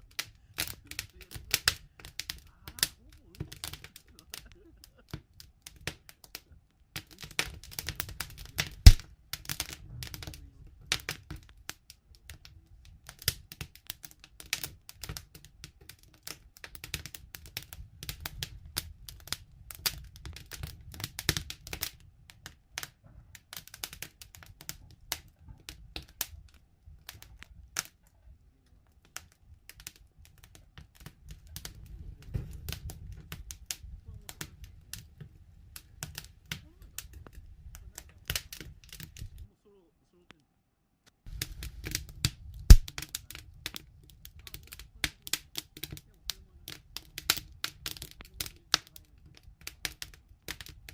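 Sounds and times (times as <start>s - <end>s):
wood campfire crackling: 0.0s - 39.5s, 41.1s - 50.9s.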